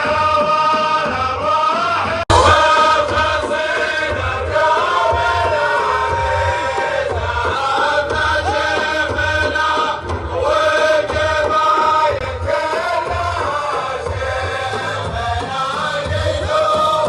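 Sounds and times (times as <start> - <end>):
men chanting in unison: 0.0 - 17.0
steady low beat: 2.3 - 17.0.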